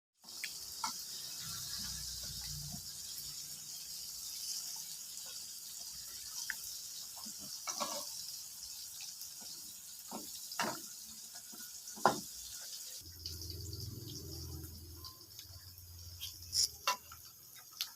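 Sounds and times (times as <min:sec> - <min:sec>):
water running in sink: 0:00.2 - 0:17.9.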